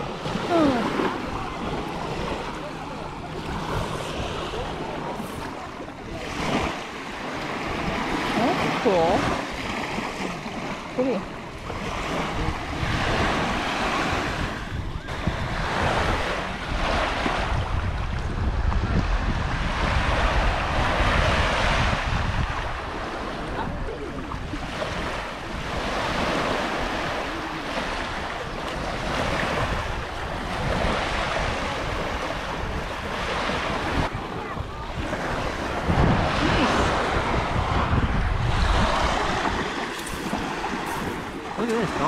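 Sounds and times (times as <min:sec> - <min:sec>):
surf washing in shallow water: 0:00.0 - 0:42.0
wind rumbling on microphone: 0:00.0 - 0:42.0.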